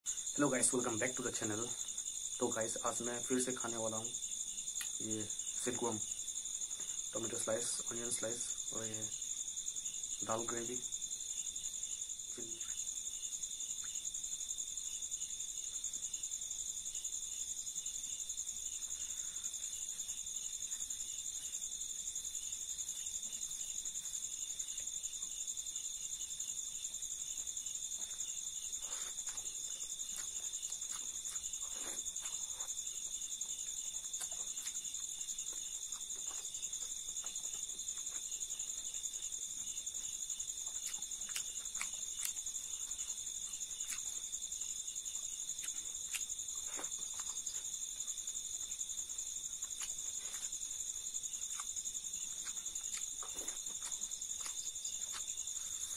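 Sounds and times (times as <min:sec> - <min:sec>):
crickets chirring: 0:00.0 - 0:55.9
faint chewing sounds: 0:00.1 - 0:55.9.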